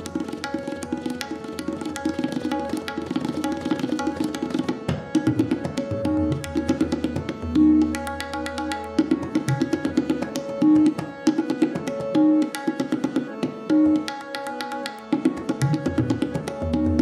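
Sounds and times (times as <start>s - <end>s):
harmonium melody: 0.0s - 17.0s
tabla drumming: 0.0s - 17.0s.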